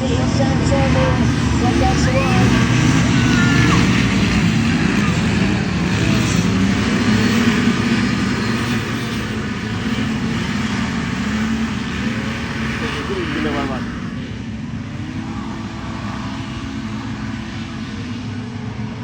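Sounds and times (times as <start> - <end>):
hovercraft engines droning: 0.0 - 19.0.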